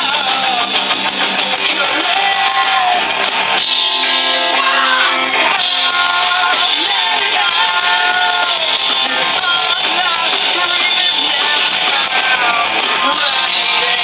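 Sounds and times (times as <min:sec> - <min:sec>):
man singing: 0:00.0 - 0:03.0, 0:04.5 - 0:14.0
electric guitar: 0:00.0 - 0:14.0
live rock band playing: 0:00.0 - 0:14.0.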